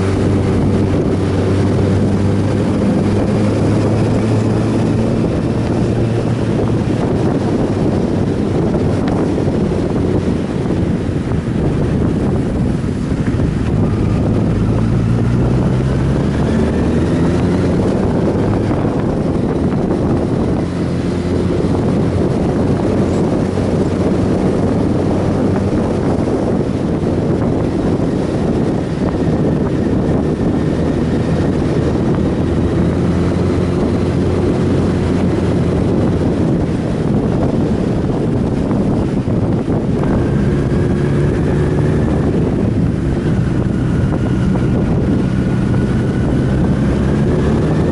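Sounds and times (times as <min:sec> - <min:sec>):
motorcycle engine revving: 0:00.0 - 0:47.9
wind buffeting microphone: 0:00.0 - 0:47.9.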